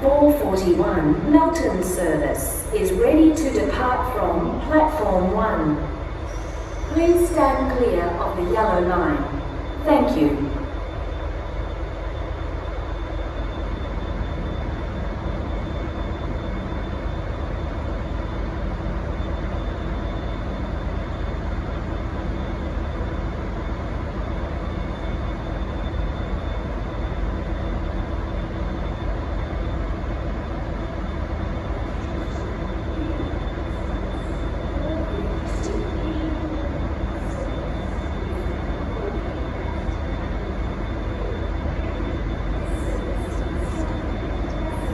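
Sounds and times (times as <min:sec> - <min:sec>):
diesel locomotive idling: 0:00.0 - 0:44.9.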